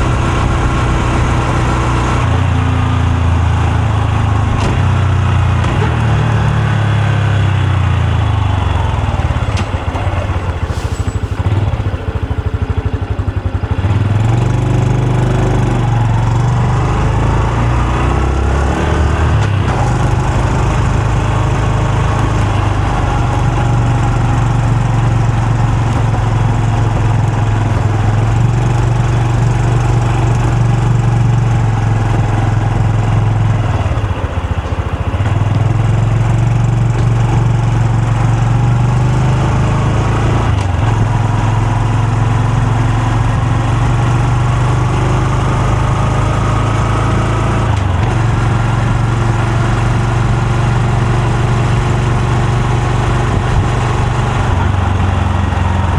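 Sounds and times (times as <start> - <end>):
motorcycle engine and exhaust: 0.0 - 55.9.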